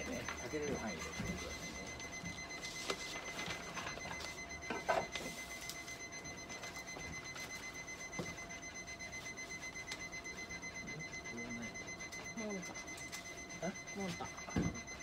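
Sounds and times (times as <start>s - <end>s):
rapid electronic beeping: 0.0s - 15.0s.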